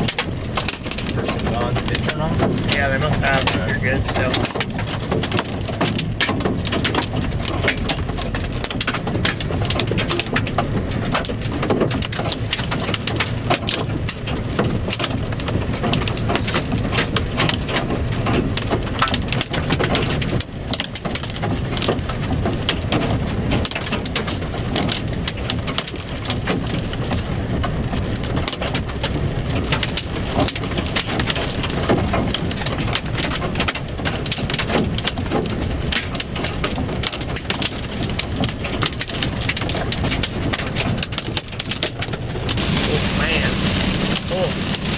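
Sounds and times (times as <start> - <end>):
hail pelting a vehicle: 0.0 - 44.9.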